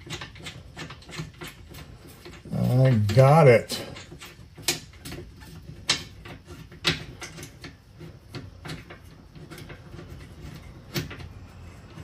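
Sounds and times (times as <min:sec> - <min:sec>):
nut and bolt clicking: 0:00.0 - 0:12.0.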